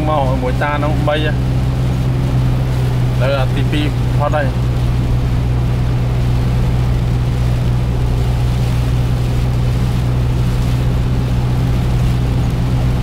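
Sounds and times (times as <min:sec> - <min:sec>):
engine hum: 0:00.0 - 0:13.0
tyres hissing on wet road: 0:00.0 - 0:13.0.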